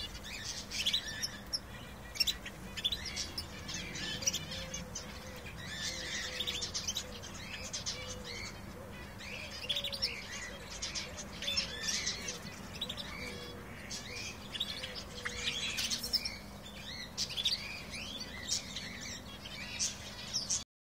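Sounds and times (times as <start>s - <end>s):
canaries singing: 0.0s - 20.6s.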